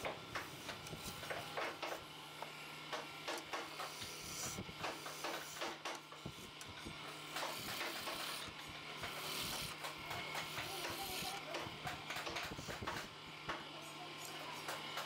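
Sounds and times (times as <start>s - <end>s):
chisel scraping spinning wood: 0.0s - 13.1s
wood lathe humming: 0.0s - 15.0s.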